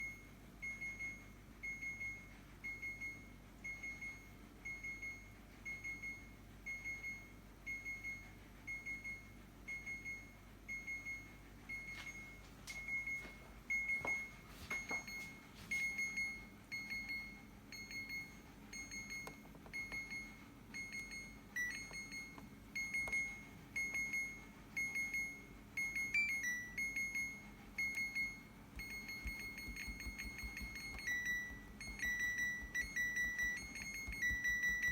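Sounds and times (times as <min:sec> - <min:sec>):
refrigerator alarm beeping: 0:00.0 - 0:34.9.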